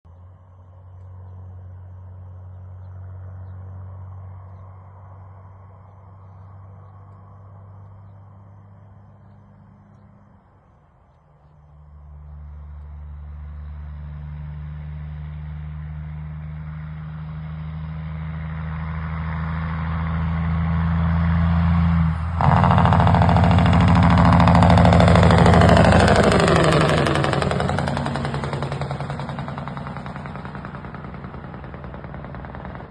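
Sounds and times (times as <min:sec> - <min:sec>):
truck diesel engine passing: 0:00.2 - 0:32.9.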